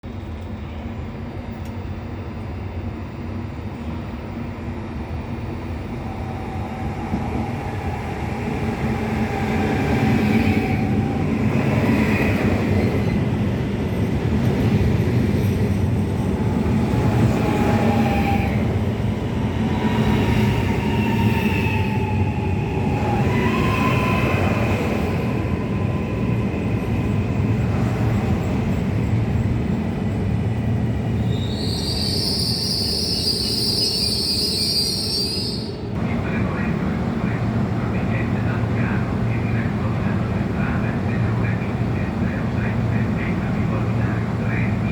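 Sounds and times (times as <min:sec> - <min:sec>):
train running with steady rumble: 0:00.0 - 0:44.9.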